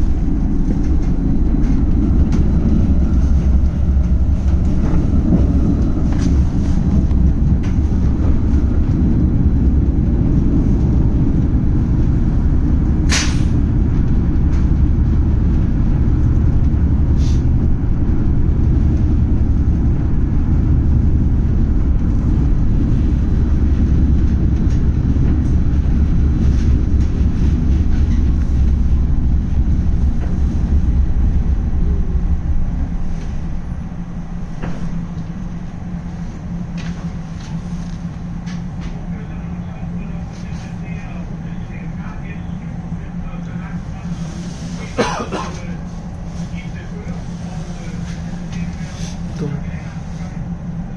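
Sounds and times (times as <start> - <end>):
tram rumbling: 0.0 - 50.9.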